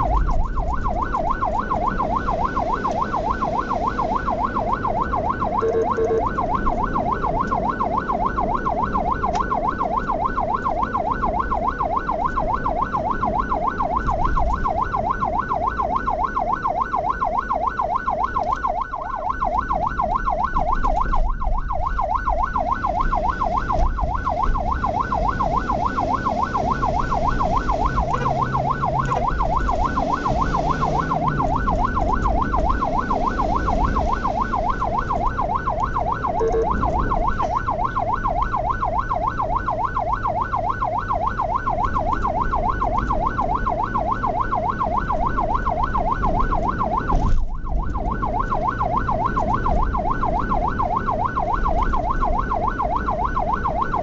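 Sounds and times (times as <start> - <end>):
ambulance siren yelping: 0.0 - 54.0
engine and road rumble: 0.0 - 54.0.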